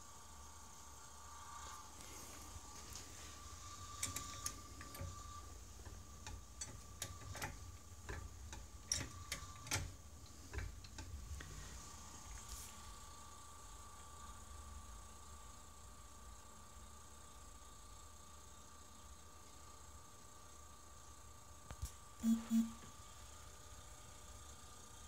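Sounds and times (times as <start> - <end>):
refrigerator humming: 0.0 - 25.0.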